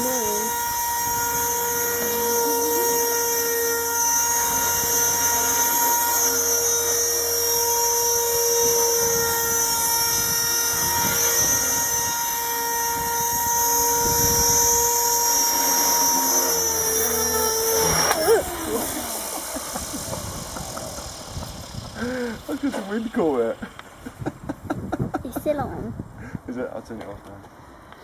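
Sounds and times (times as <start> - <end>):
toy helicopter motor whine: 0.0 - 26.5.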